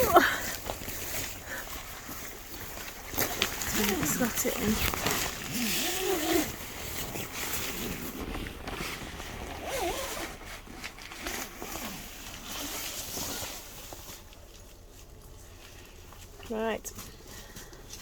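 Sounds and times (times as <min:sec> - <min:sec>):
nylon fabric rustling and crackling: 0:00.0 - 0:18.0.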